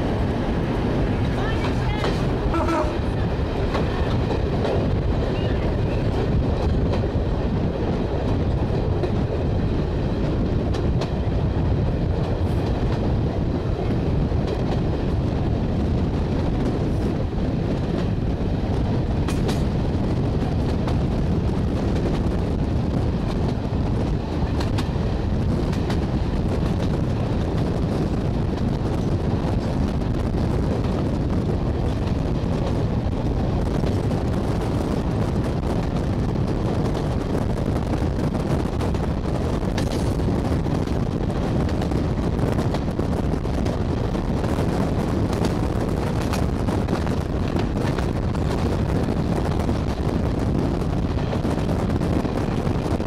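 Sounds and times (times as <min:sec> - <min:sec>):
clickety-clack over rail joints: 0:00.0 - 0:53.0
train wheels rumbling on rail: 0:00.0 - 0:53.0.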